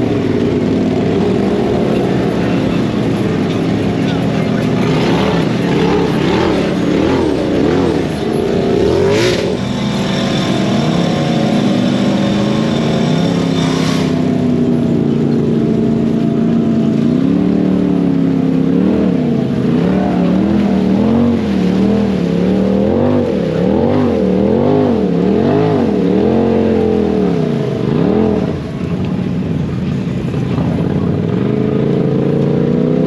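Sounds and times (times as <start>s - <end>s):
engine revving in mud: 0.0s - 33.0s.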